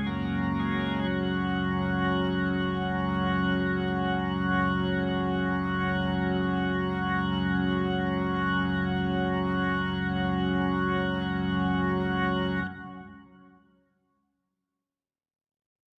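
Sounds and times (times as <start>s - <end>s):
sustained organ chord: 0.0s - 13.8s.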